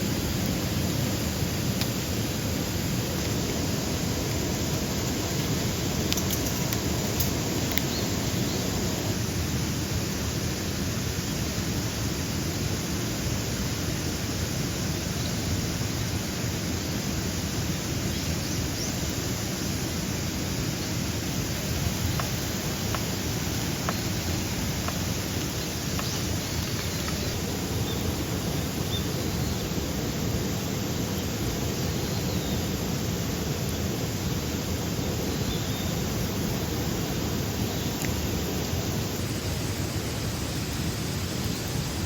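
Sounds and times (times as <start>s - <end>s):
steady rushing outdoor noise: 0.0s - 42.0s.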